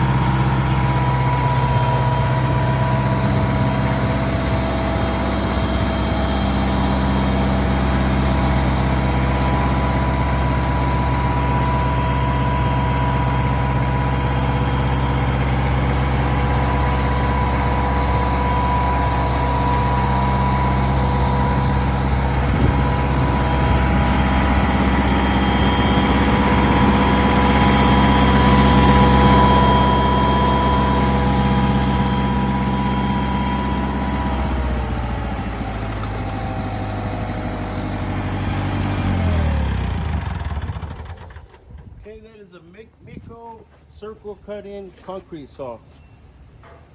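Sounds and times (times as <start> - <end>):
concrete saw engine running: 0.0 - 41.8.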